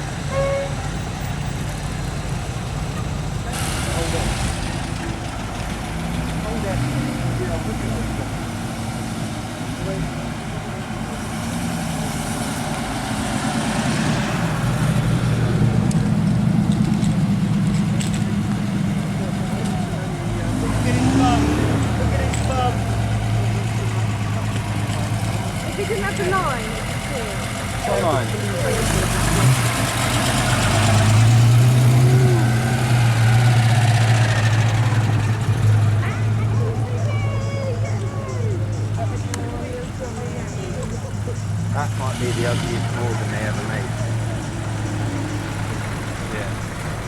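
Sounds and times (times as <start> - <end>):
car engine rumbling: 0.0 - 47.0.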